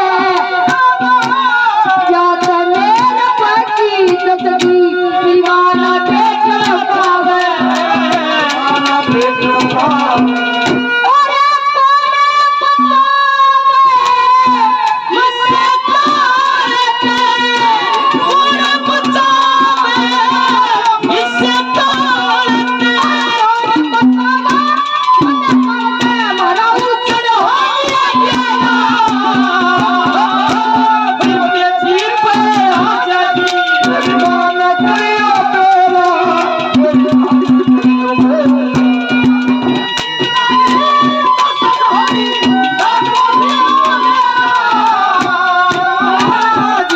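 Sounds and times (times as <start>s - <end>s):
hand drum rhythm: 0.0s - 46.9s
harmonium melody: 0.0s - 46.9s
high-pitched singing: 0.0s - 46.9s.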